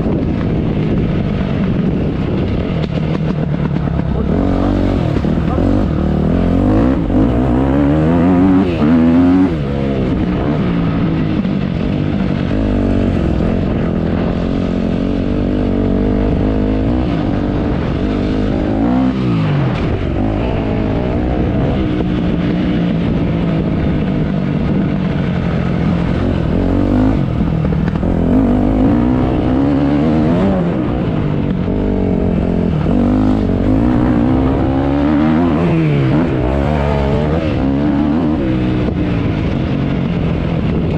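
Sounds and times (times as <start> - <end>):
dirt bike engine revving: 0.0 - 40.8.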